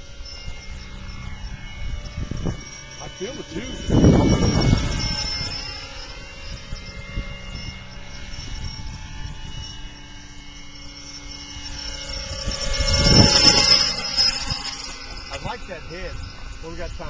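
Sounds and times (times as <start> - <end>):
electric drive tones: 0.0 - 17.0
helicopter rotor whir: 0.0 - 17.0.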